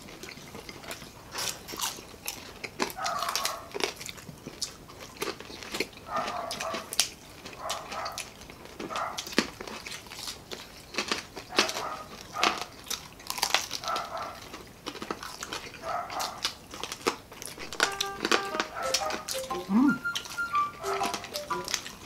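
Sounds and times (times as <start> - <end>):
crunchy food chewing: 0.0 - 22.0.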